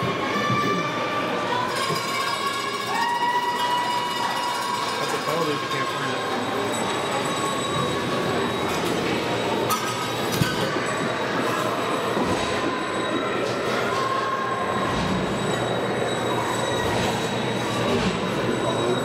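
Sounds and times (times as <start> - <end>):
echoing crowd: 0.0 - 19.0.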